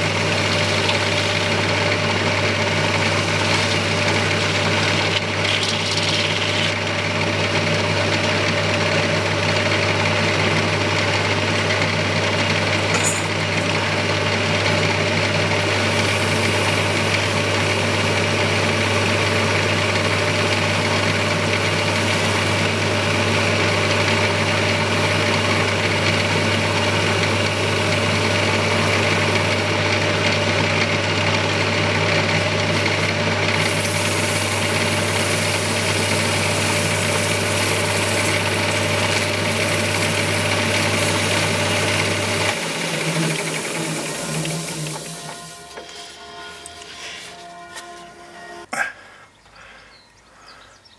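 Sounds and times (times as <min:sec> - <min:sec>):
wood lathe motor humming: 0:00.0 - 0:48.7.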